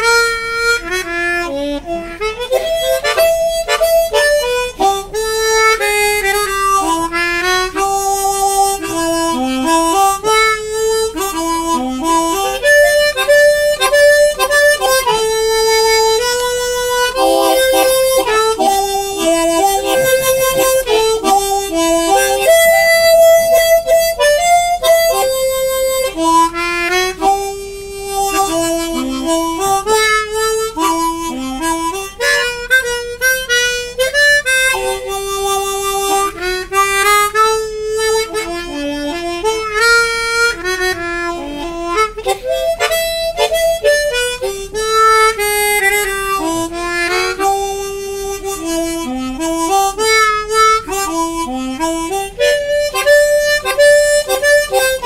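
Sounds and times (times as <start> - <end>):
harmonica melody: 0.0 - 55.0.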